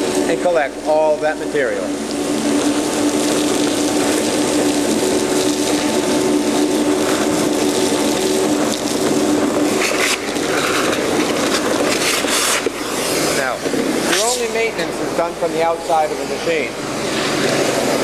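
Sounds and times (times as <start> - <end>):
industrial vacuum running: 0.0 - 18.0.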